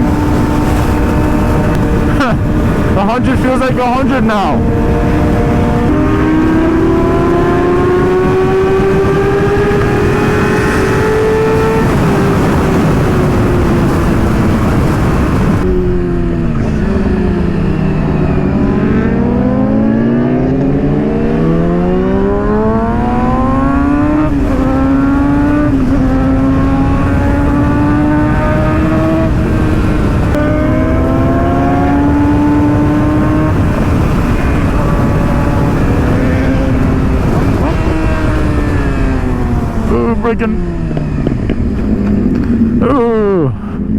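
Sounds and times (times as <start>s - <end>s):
motorcycle engine revving: 0.0s - 43.9s
wind on microphone: 0.0s - 43.9s.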